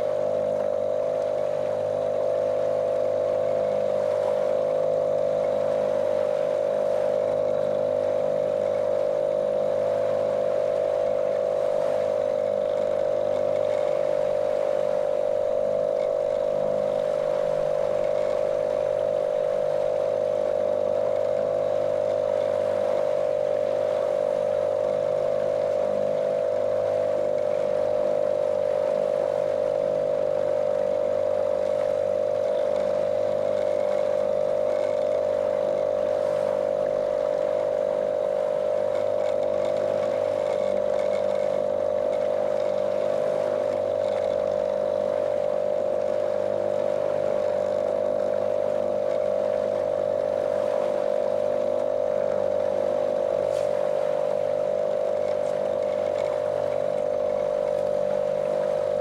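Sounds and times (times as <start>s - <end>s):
outboard motor running: 0.0s - 59.0s
water rushing past hull: 0.0s - 59.0s.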